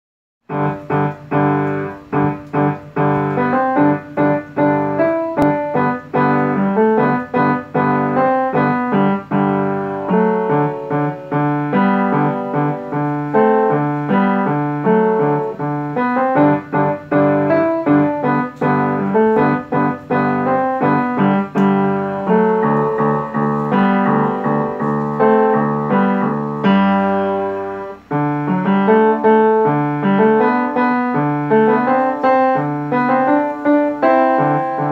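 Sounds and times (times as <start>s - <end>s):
solo piano: 0.4s - 34.9s.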